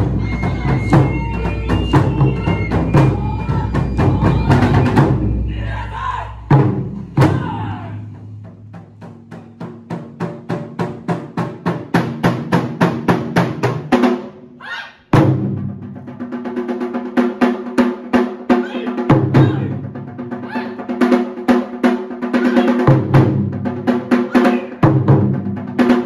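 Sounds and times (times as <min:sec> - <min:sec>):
barrel drums in fast rhythm: 0:00.0 - 0:05.6, 0:06.4 - 0:14.5, 0:15.1 - 0:26.0.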